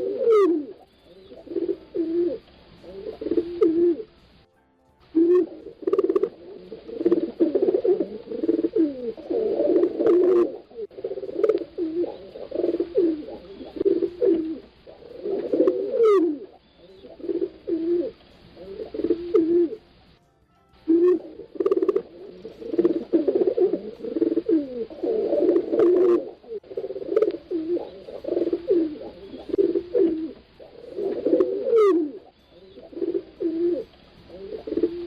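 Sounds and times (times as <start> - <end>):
pigeons cooing: 0.0 - 4.2, 5.2 - 19.9, 20.9 - 35.0.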